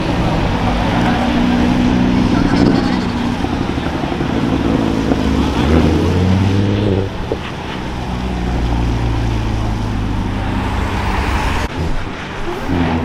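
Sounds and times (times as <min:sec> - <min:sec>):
car engines droning: 0:00.0 - 0:13.0.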